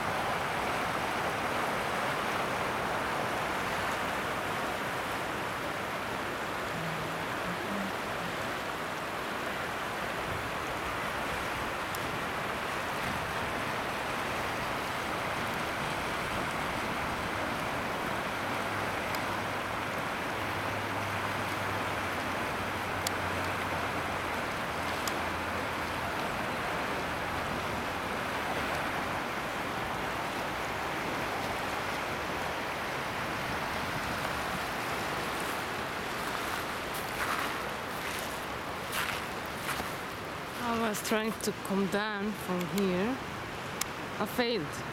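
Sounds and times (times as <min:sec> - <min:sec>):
river water rushing over rocks: 0:00.0 - 0:44.9.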